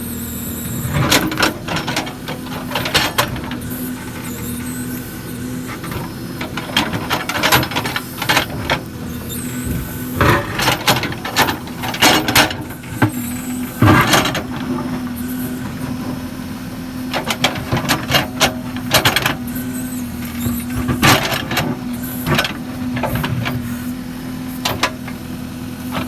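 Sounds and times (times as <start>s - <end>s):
backhoe diesel engine running: 0.0s - 26.0s
metallic clanks and squeaks: 0.7s - 16.1s, 17.1s - 23.9s.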